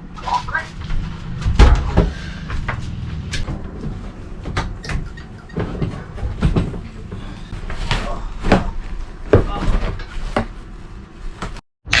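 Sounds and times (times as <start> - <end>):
knocks and clatter: 0.7 - 10.6.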